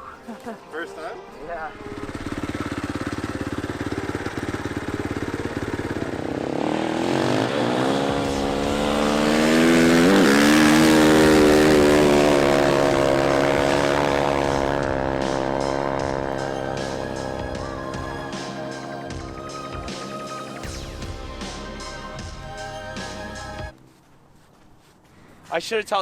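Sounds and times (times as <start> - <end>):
dirt bike engine revving: 1.7 - 23.7.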